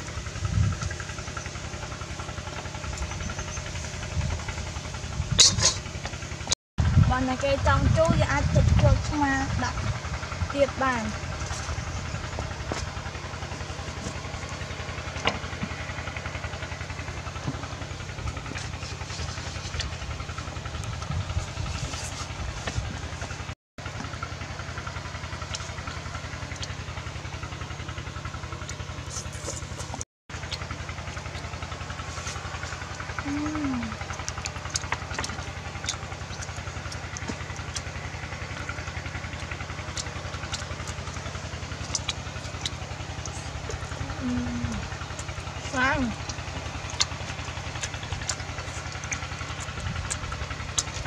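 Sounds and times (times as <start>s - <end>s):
small engine idling: 0.0s - 51.0s.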